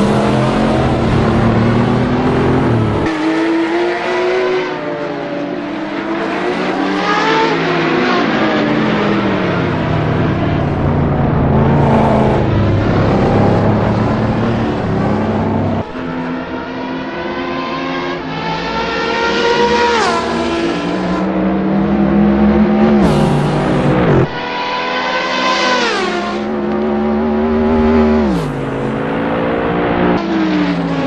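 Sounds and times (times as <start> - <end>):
race car engine accelerating: 0.0 - 31.0.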